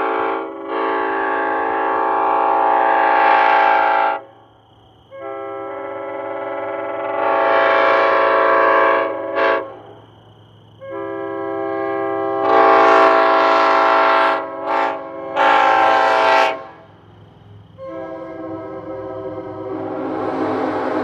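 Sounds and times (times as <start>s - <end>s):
locomotive air horn blasts: 0.0s - 4.2s, 5.1s - 9.8s, 10.8s - 16.9s, 17.8s - 21.0s.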